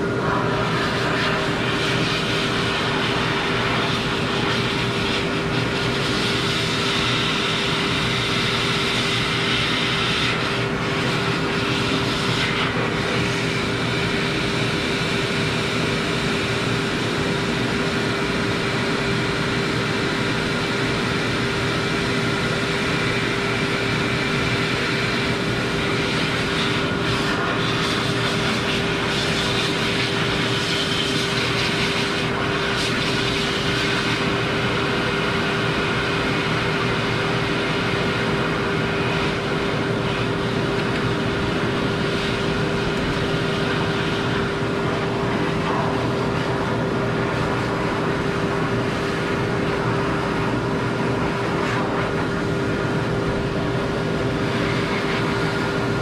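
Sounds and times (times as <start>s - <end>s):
blower dryer running: 0.0s - 56.0s.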